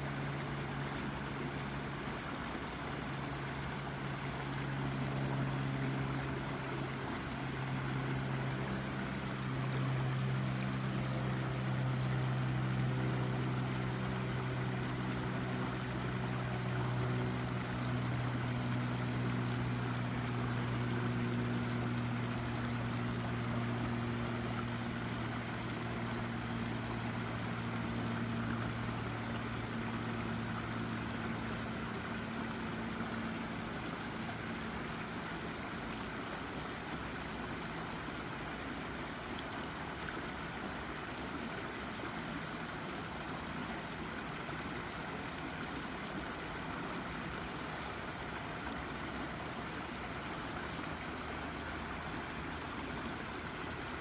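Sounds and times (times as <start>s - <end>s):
low mechanical hum: 0.0s - 54.0s
water running over rocks: 0.0s - 54.0s.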